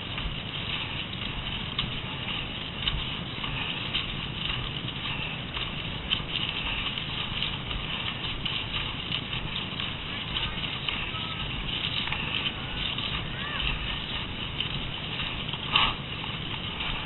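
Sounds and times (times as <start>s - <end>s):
ski poles tapping and crunching: 0.0s - 17.0s
skis swishing over snow: 0.0s - 17.0s
steady low rumble: 0.0s - 17.0s.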